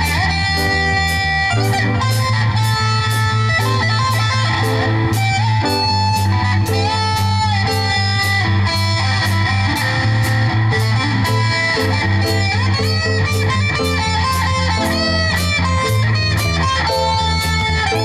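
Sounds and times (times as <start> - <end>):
bass guitar: 0.0 - 18.0
drums with cymbal beat: 0.0 - 18.0
electric guitar lead: 0.0 - 18.0.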